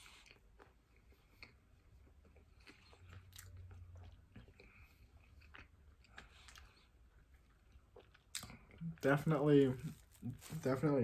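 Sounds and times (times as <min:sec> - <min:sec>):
chewing sandwich: 0:00.0 - 0:11.0.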